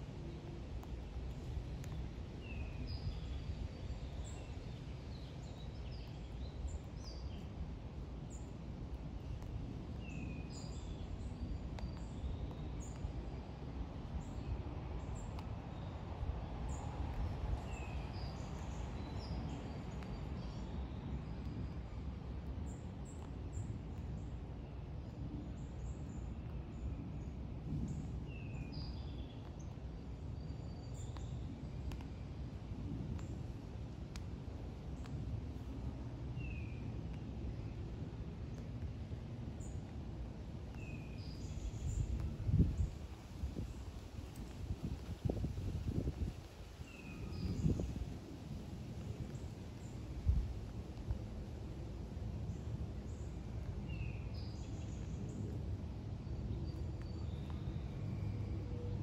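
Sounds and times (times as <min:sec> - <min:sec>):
low outdoor rumble: 0:00.0 - 0:59.0
songbirds chirping: 0:00.1 - 0:59.0.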